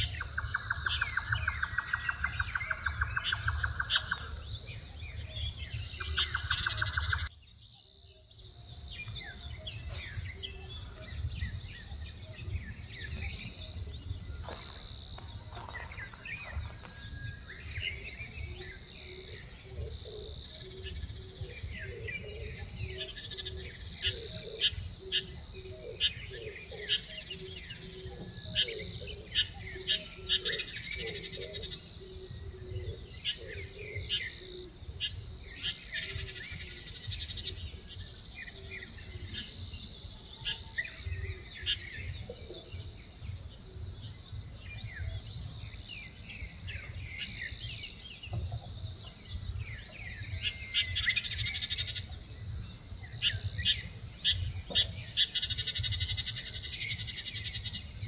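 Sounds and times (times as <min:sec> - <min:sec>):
birds chirping: 0:00.0 - 0:58.0
low repeated bird call: 0:00.0 - 0:58.0.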